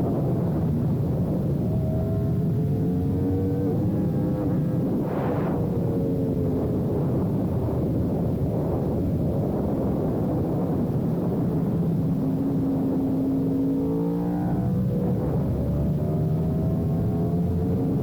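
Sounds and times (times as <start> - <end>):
heavy wind rush: 0.0 - 18.0.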